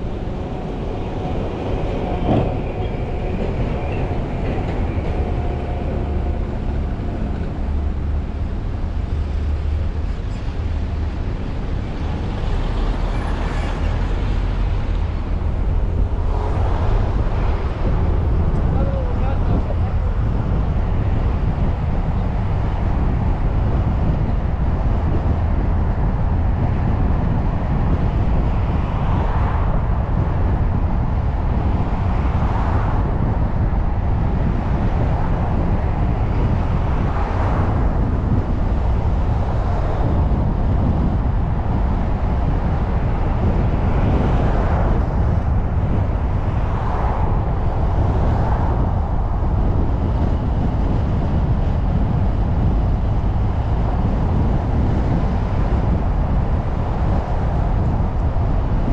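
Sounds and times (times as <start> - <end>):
car driving rumble: 0.0 - 58.9
passing traffic: 0.0 - 58.9.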